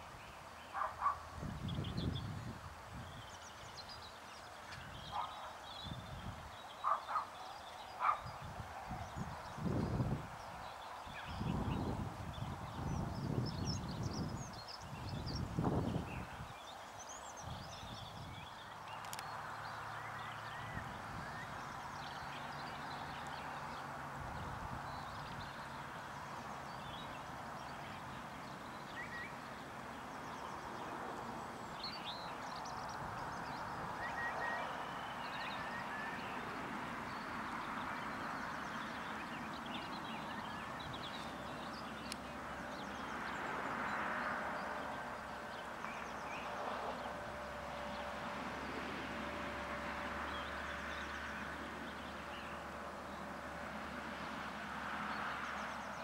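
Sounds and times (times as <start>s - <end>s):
birds chirping: 0.0s - 48.8s.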